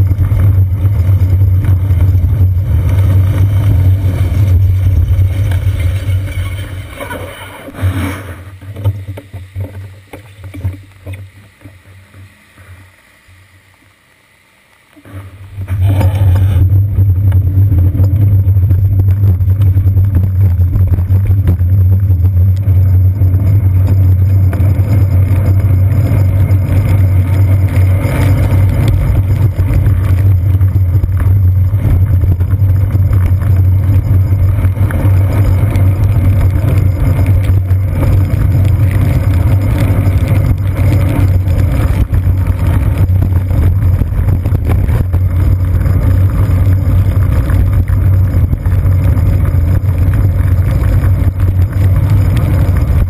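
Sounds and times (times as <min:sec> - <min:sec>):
bicycle rumbling over wet pavement: 0:00.0 - 0:12.6, 0:15.0 - 0:53.0
muffled road traffic: 0:00.0 - 0:53.0.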